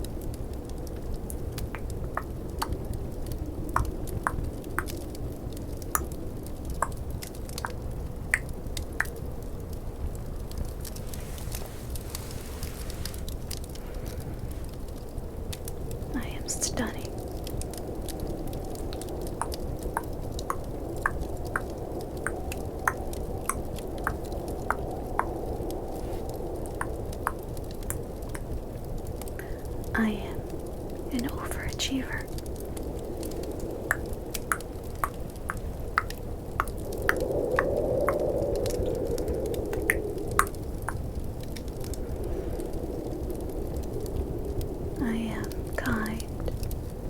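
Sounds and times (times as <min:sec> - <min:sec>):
fireplace crackling: 0:00.0 - 0:47.0
snowstorm rumble: 0:00.0 - 0:47.0.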